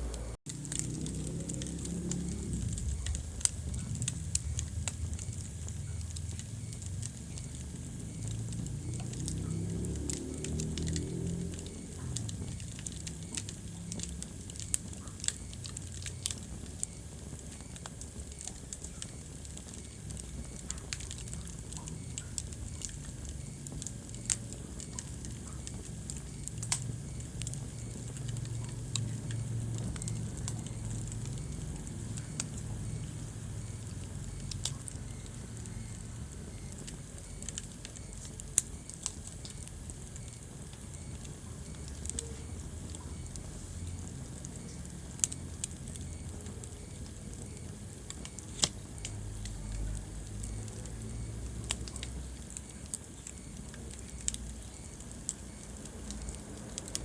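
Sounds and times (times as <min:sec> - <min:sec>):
wood fire crackling and popping: 0:00.1 - 0:57.0.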